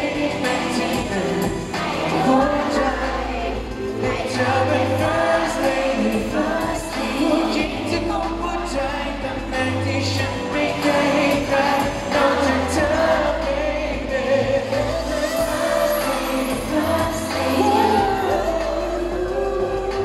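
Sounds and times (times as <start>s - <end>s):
man singing into a microphone: 0.0s - 20.0s
musical accompaniment: 0.0s - 20.0s
steady bass line: 0.0s - 20.0s.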